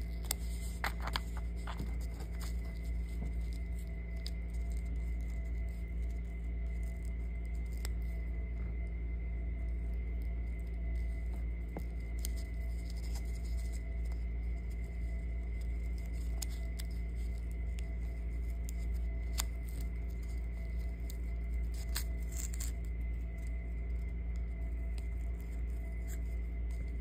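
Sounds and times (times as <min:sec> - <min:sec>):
faint steady tone: 0:00.0 - 0:27.0
low hum: 0:00.0 - 0:27.0.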